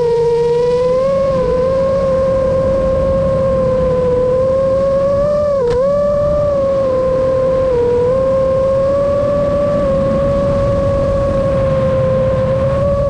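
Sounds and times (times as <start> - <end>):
drone propellers whining: 0.0 - 13.0
low rushing noise: 0.0 - 13.0.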